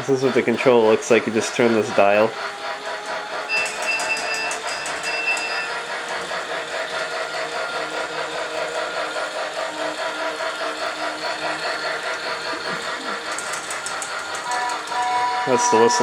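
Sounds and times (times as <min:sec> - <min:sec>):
toy train motor running: 0:00.0 - 0:16.0
toy train steam chuffing: 0:00.0 - 0:16.0
train bell ringing: 0:00.0 - 0:16.0.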